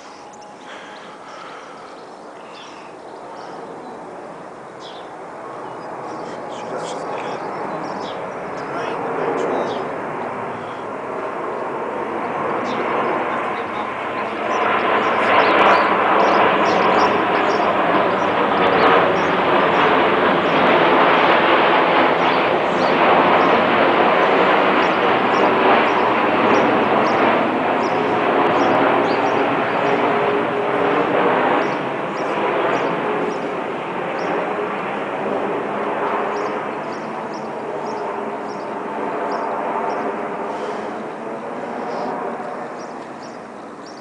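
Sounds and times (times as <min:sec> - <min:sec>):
jet airliner flying over: 0:00.0 - 0:44.0.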